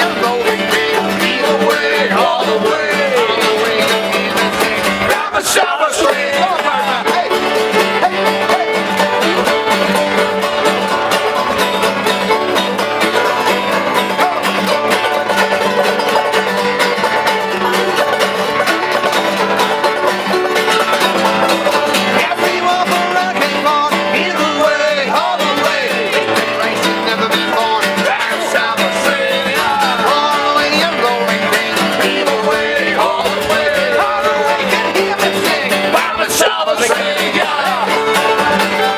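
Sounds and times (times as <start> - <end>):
country music with plucked strings: 0.0 - 38.9.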